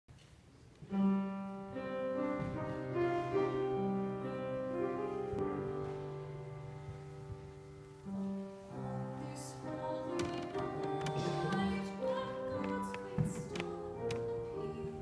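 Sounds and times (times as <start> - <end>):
slow piano chords and melody: 0.8 - 15.0.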